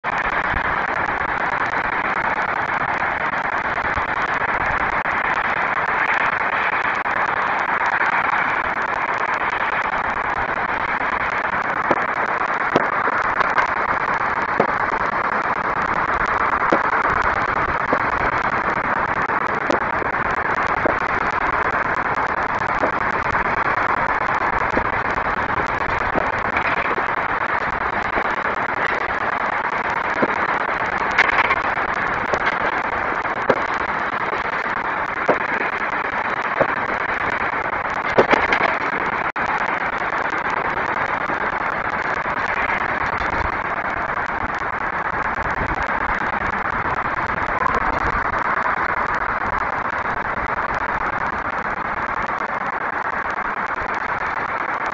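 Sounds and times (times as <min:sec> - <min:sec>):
city background hiss: 0:00.0 - 0:54.9
distant fireworks cracking: 0:00.0 - 0:54.9.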